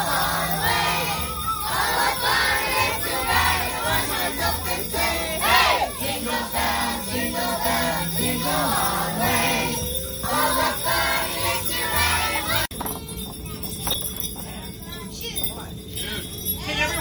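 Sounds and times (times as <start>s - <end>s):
christmas music: 0.0s - 17.0s
passengers' voices: 0.0s - 17.0s
sleigh bells jingling: 0.0s - 17.0s.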